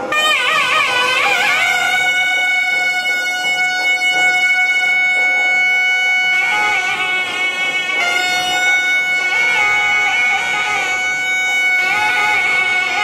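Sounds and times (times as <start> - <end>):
double-reed wind instruments playing: 0.0 - 13.0.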